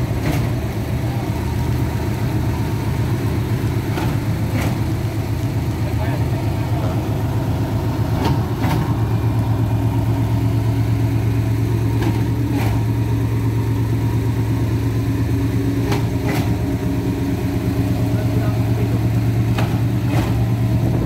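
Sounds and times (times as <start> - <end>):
pump truck engine idling: 0.0 - 21.0.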